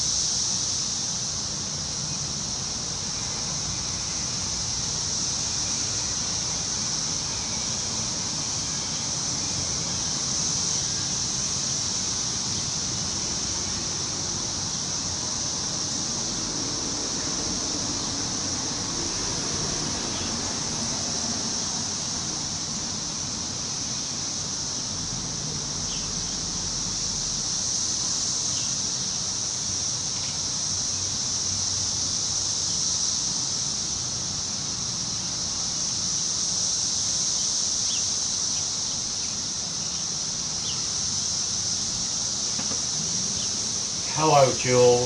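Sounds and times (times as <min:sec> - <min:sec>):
high-pitched insect drone: 0:00.0 - 0:45.0
wind through trees: 0:00.0 - 0:45.0.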